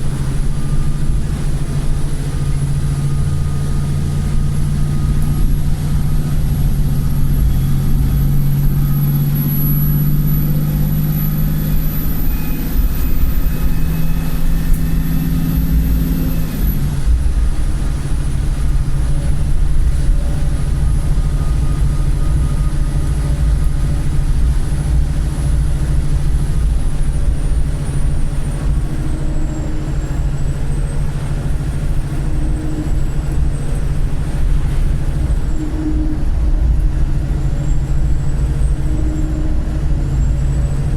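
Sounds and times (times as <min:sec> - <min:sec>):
diesel engine under load: 0:00.0 - 0:40.9
high-pitched turbo squeal: 0:00.0 - 0:40.9.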